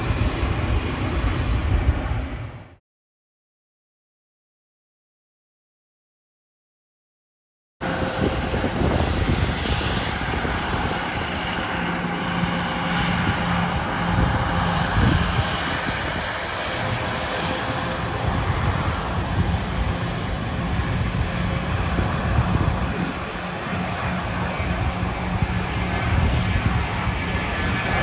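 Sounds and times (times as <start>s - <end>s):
jet engines running: 0.0s - 2.8s, 7.8s - 28.0s.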